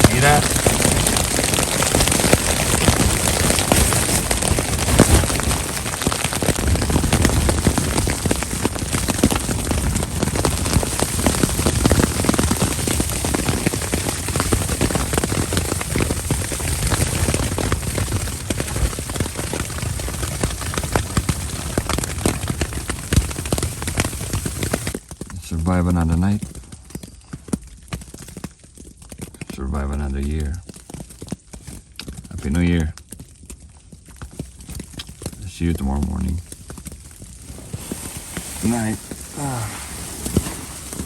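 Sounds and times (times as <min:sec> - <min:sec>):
rain and sleet on a tent: 0:00.0 - 0:41.0.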